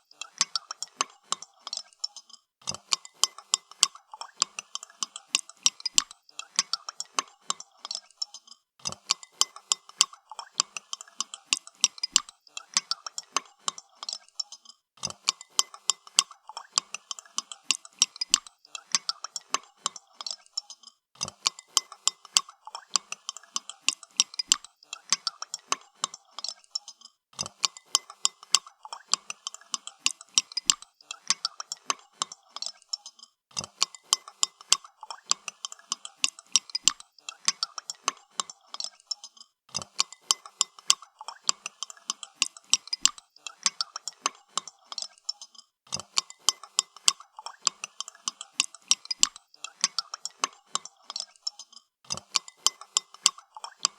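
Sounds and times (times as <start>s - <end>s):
spoon clinking in a cup: 0.2s - 53.9s.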